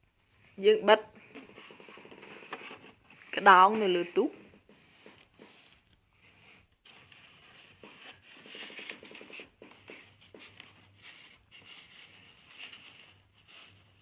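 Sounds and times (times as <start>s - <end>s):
paper and plastic rustling: 1.2s - 14.0s.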